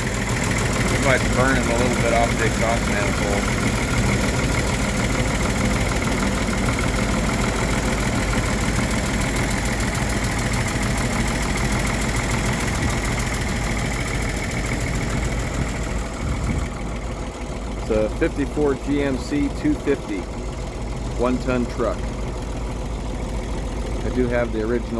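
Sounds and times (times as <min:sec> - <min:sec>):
truck engine idling: 0:00.0 - 0:24.9.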